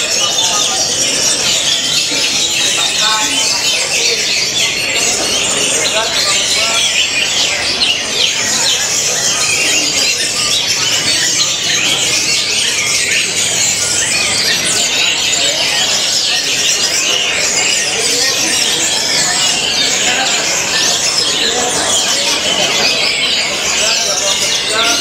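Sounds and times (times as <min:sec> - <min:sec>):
chorus of songbirds singing: 0:00.0 - 0:25.0.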